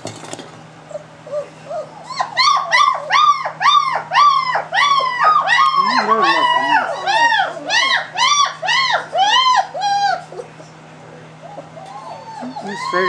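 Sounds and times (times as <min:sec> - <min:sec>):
puppy whining: 0:00.8 - 0:13.0.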